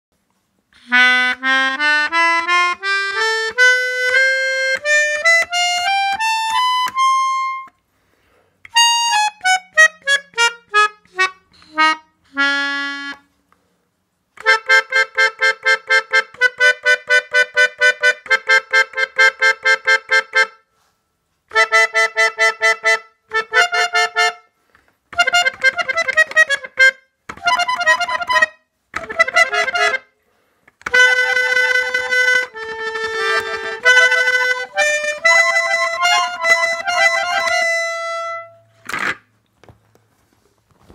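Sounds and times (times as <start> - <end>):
keyboard melodica playing: 0.8 - 7.8, 8.6 - 13.4, 14.4 - 20.7, 21.5 - 30.2, 30.8 - 39.2.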